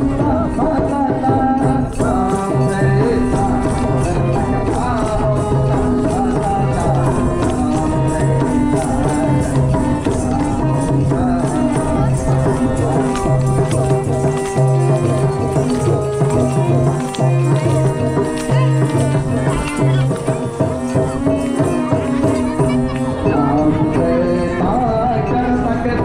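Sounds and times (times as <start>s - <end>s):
barrel drum beat: 0.0s - 26.0s
jingling percussion: 0.0s - 26.0s
winding melody: 2.1s - 24.8s.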